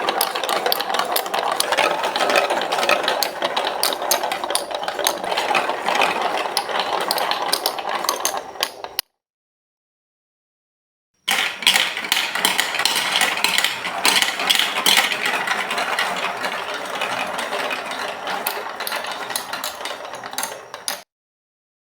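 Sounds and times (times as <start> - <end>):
marbles rolling on plastic track: 0.0 - 9.0, 11.3 - 21.1.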